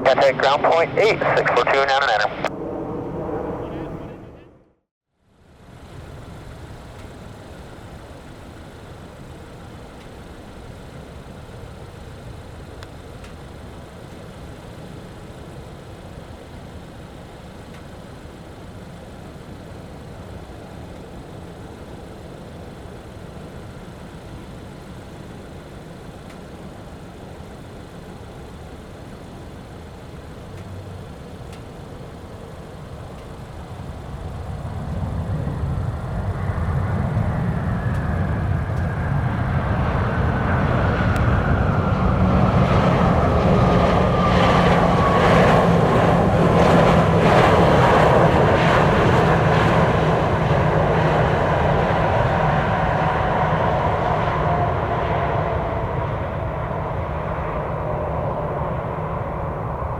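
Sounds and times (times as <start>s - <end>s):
jet airliner passing: 0.0s - 4.9s, 5.6s - 59.9s.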